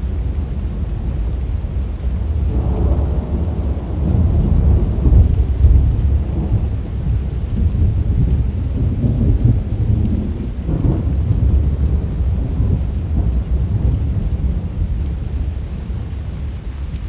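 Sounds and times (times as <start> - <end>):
faint rain hiss: 0.0 - 17.0
rolling thunder: 0.0 - 17.0.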